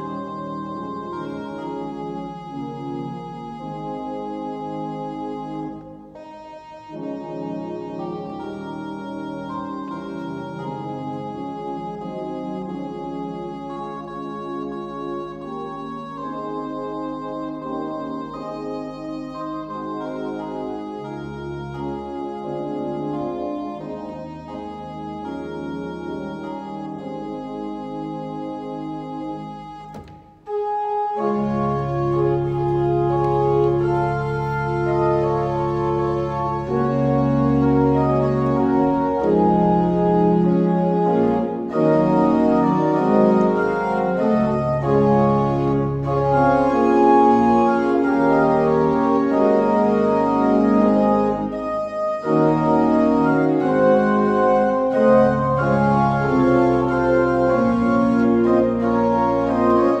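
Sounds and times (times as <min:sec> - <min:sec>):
church organ chords: 0:00.0 - 1:00.0.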